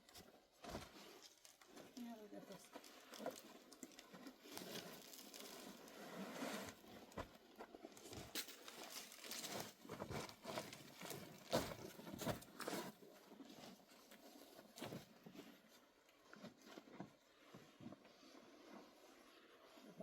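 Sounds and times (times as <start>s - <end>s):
crunching and rustling: 0.0s - 18.9s.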